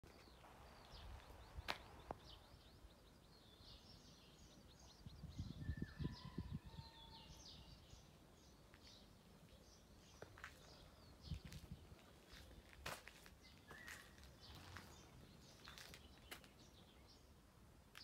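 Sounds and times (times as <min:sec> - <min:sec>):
small birds chirping: 0:00.1 - 0:18.0.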